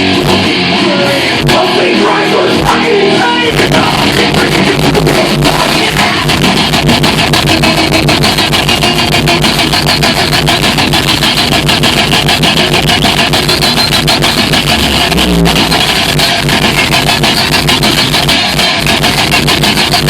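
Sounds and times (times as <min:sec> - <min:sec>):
bass guitar: 0:00.0 - 0:20.0
distorted electric guitar: 0:00.0 - 0:20.0
fast dense drumming: 0:00.0 - 0:20.0.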